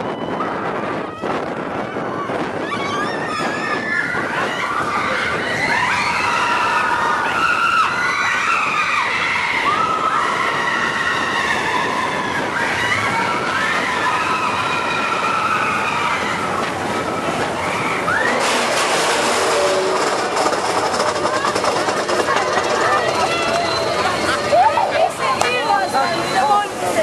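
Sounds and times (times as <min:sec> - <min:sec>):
roller coaster cars rumbling: 0:00.0 - 0:27.0
wheels squealing on rails: 0:02.0 - 0:27.0.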